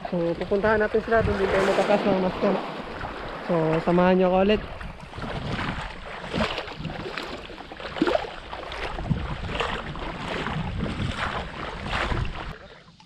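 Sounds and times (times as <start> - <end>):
wind rumble on microphone: 0.0 - 12.6
feet splashing in shallow water: 0.0 - 12.9.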